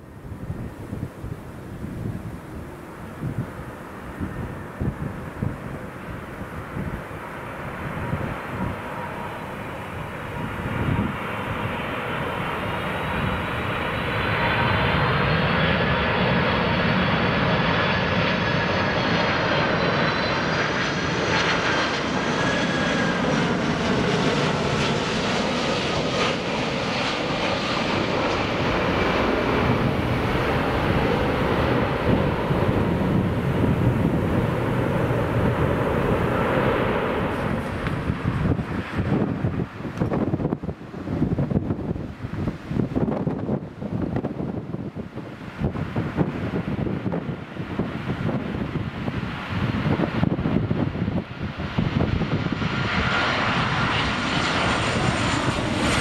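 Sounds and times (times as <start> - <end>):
airliner passing low overhead: 0.0 - 56.0.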